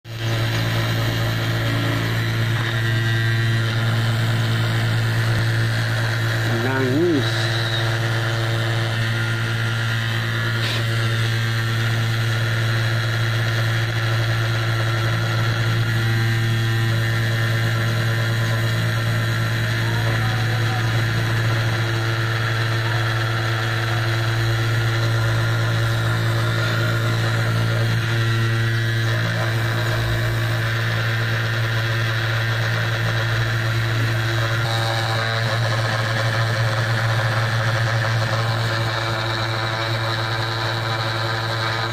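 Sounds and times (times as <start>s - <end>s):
router spindle motor hum: 0.1s - 41.9s.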